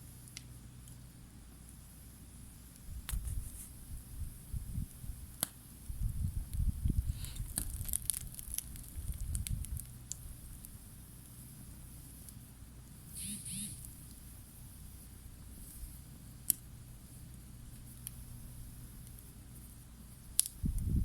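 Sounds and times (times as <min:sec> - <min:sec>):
campfire crackling and popping: 0:00.2 - 0:13.2, 0:13.8 - 0:21.0.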